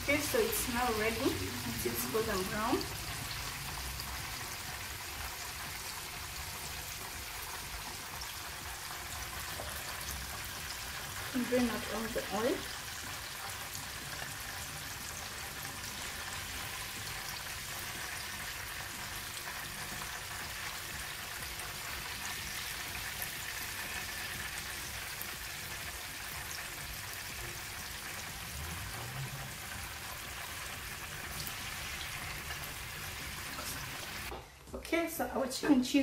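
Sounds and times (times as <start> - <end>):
oil sizzling while deep-frying: 0.0 - 34.4.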